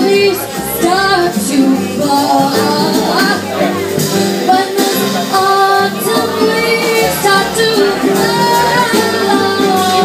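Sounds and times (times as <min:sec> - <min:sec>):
bass line: 0:00.0 - 0:10.0
small jazz band: 0:00.0 - 0:10.0.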